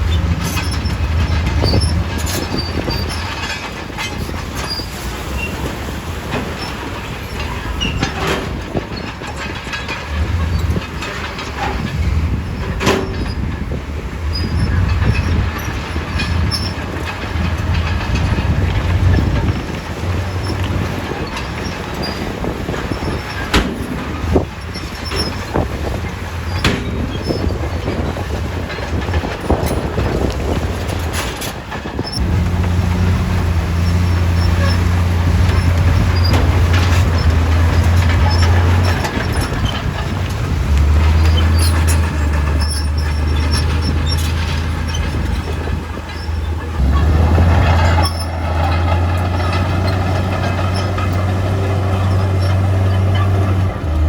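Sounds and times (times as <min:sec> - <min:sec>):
bulldozer diesel engine: 0:00.0 - 0:54.0
steel tracks clanking: 0:00.0 - 0:54.0.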